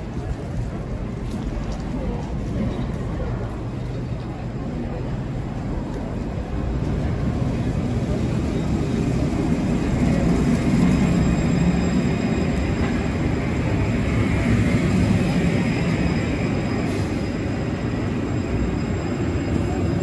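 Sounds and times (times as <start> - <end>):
tram wheels rumbling on rail: 0.0 - 20.0.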